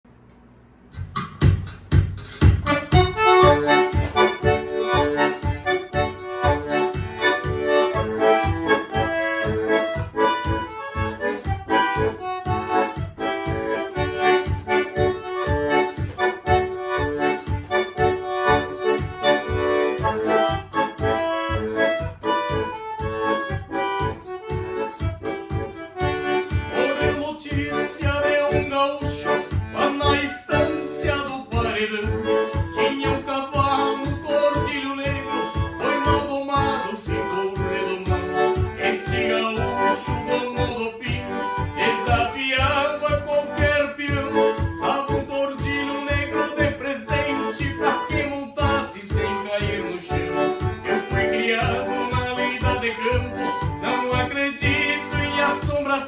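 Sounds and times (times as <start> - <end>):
steady low beat: 0.9 - 56.0
bandoneon folk melody: 2.4 - 56.0.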